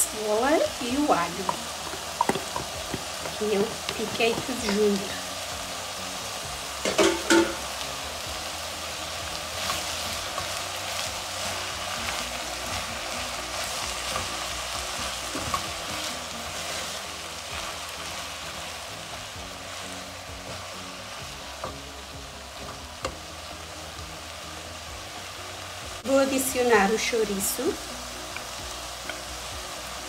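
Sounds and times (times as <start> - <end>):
meat sizzling in a frying pan: 0.0 - 30.0.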